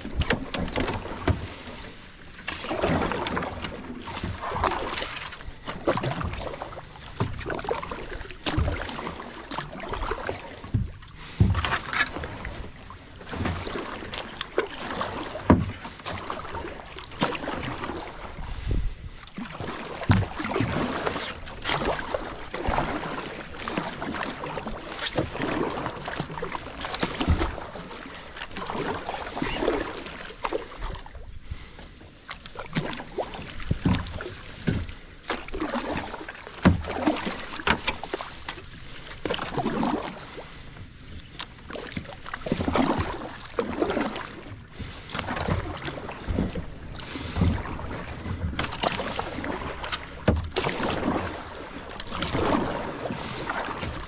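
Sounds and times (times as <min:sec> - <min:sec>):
paddle splashing in water: 0:00.0 - 0:54.0.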